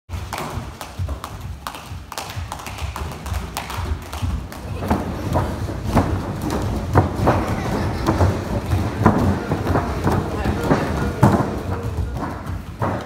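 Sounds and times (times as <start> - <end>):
bare feet landing: 0.1 - 13.0
jump ropes slapping floor: 0.1 - 13.0.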